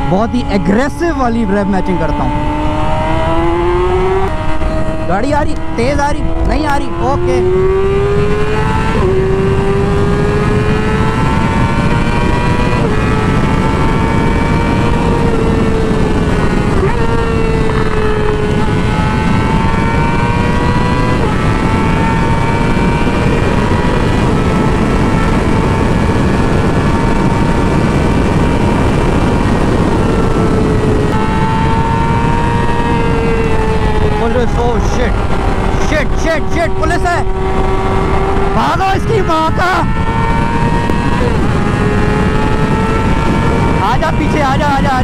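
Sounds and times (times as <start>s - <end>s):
motorcycle engine high revs whine: 0.0s - 45.0s
wind rush on microphone: 0.0s - 45.0s.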